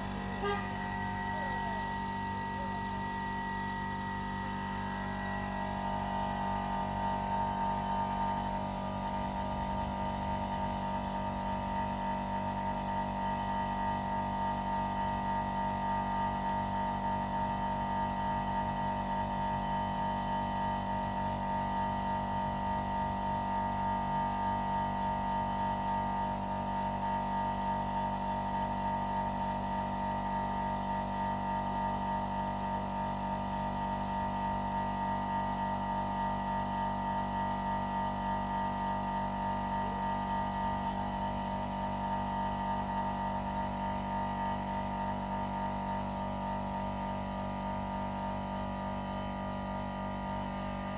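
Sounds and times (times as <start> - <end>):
air compressor humming: 0.0 - 50.9.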